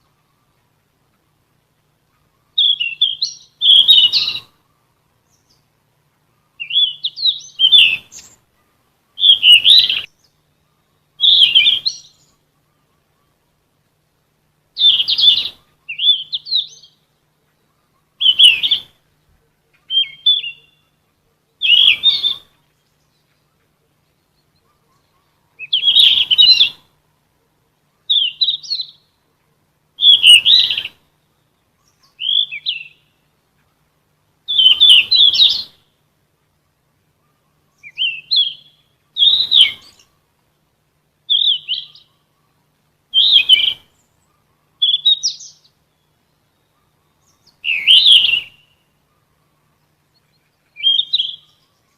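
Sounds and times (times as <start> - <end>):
bird warbling: 0.0 - 13.6, 14.7 - 27.0, 27.6 - 40.3, 41.2 - 51.9.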